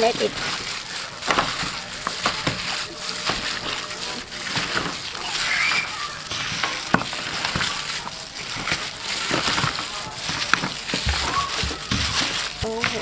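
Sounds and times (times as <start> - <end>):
wet squelching and slapping: 0.0 - 13.0.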